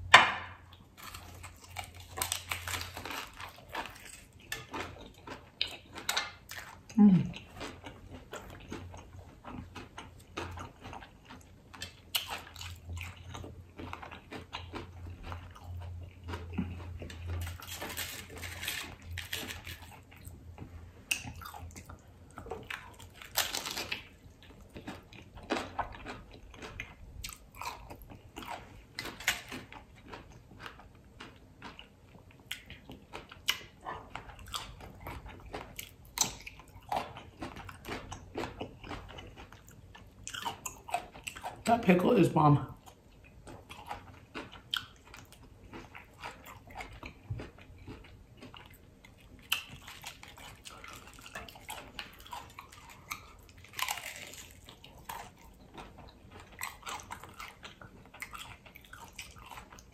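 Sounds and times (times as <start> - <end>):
wet chewing: 0.1 - 42.2, 42.8 - 59.9
taco shell crunching: 0.1 - 42.3, 43.2 - 59.9.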